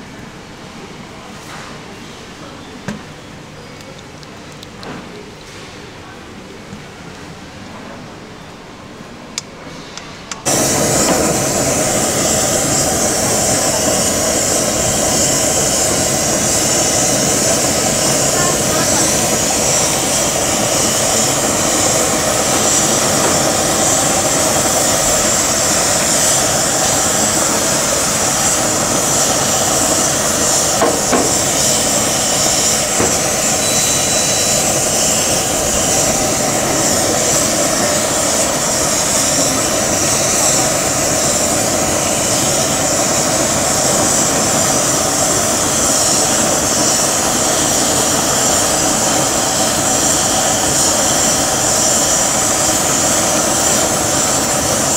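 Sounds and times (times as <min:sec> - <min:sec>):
gas burner roar: 0:09.3 - 0:54.9.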